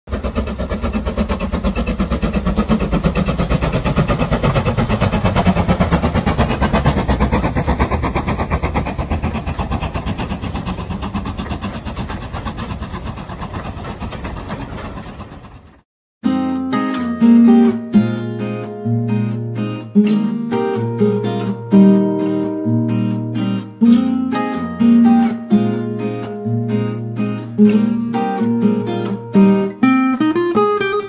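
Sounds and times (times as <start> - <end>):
steam train running past: 0.1 - 31.0.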